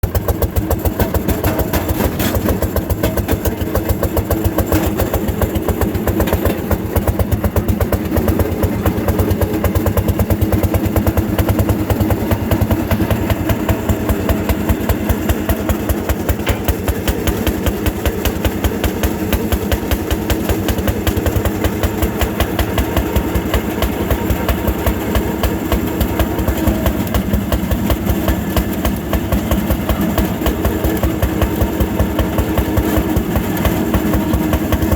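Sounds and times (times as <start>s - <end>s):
two-stroke engine exhaust beat: 0.0s - 34.9s.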